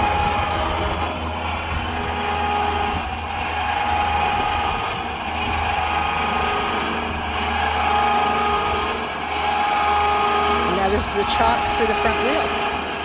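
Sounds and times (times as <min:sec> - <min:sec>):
low hum: 0:00.0 - 0:13.0
motor whining: 0:00.0 - 0:13.0.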